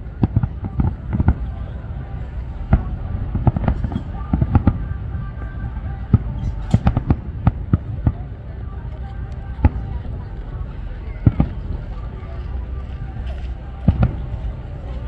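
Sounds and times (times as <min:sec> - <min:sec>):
continuous low rumble: 0:00.0 - 0:15.0.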